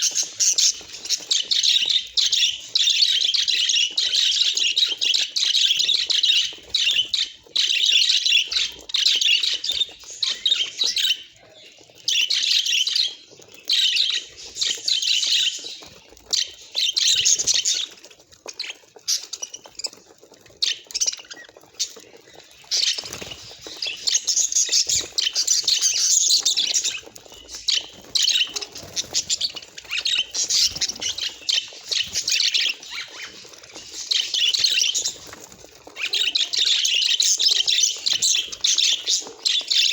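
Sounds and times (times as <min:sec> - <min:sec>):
budgerigars chattering and warbling: 0:00.0 - 0:18.0, 0:20.7 - 0:39.9.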